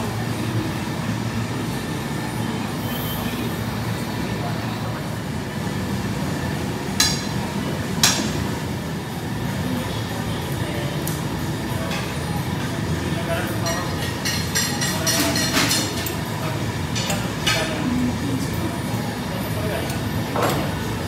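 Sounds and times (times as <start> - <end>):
furnace roaring: 0.0 - 21.0.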